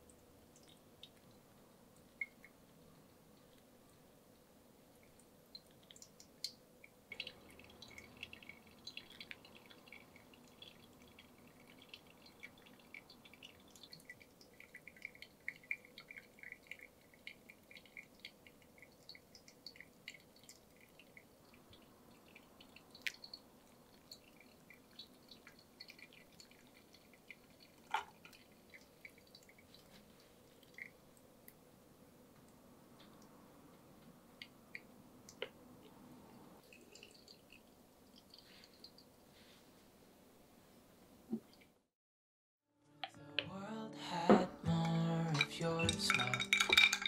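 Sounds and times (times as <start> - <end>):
coffee dripping through filter: 0.0 - 31.7, 34.0 - 39.5, 44.8 - 47.0.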